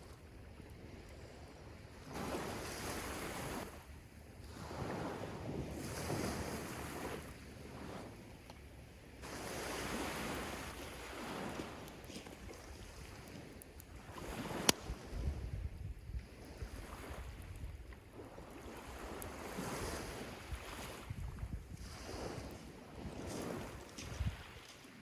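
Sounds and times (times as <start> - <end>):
sea waves washing on beach: 0.0 - 25.0.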